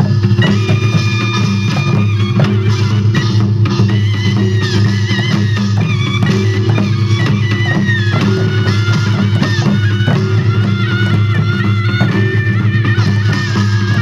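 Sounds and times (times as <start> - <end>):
drum strikes: 0.0 - 14.0
high wavering melody: 0.0 - 14.0.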